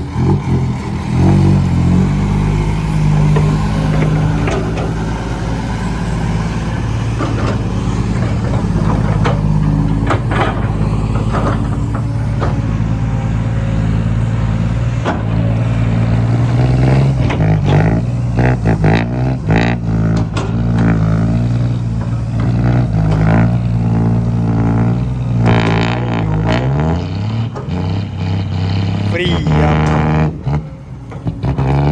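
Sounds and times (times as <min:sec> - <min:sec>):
truck engine running: 0:00.0 - 0:31.9.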